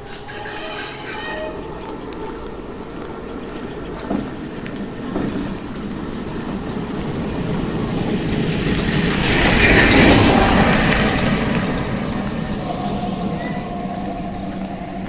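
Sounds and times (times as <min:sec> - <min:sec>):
vehicle rumbling past: 0:00.0 - 0:15.0.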